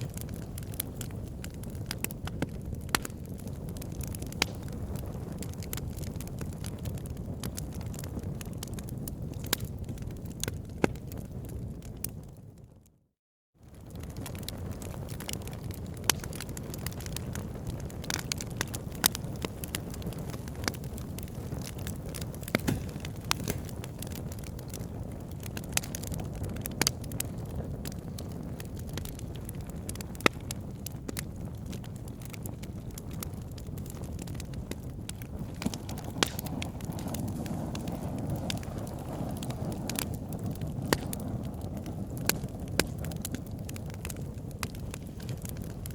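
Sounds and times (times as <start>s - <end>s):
wood crackling and popping: 0.0s - 12.6s, 13.6s - 45.9s
fire low rumble: 0.0s - 13.0s, 13.6s - 45.9s.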